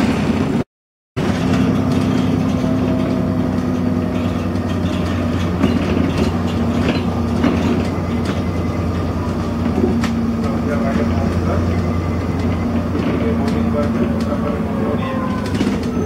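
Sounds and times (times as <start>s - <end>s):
bus diesel engine running: 0.0s - 0.6s, 1.2s - 16.0s
rattles and clicks in bus: 0.0s - 0.6s, 1.2s - 16.0s.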